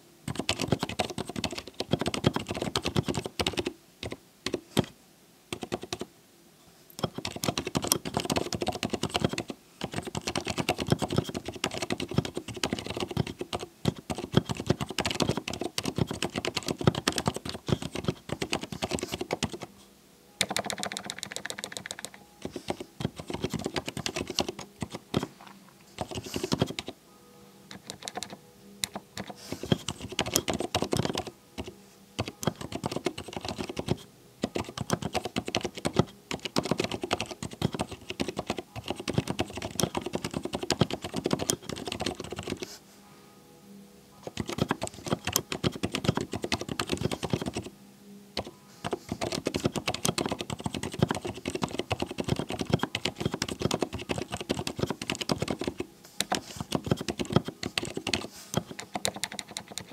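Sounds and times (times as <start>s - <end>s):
mechanical keyboard typing: 0.3s - 4.9s, 5.5s - 6.1s, 7.0s - 19.7s, 20.4s - 25.3s, 26.0s - 27.0s, 27.7s - 42.7s, 44.2s - 47.7s, 48.4s - 59.9s.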